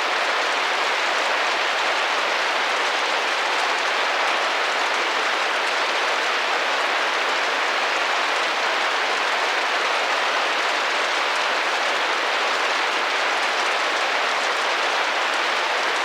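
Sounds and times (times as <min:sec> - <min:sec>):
rain drumming on a window: 0:00.0 - 0:16.0.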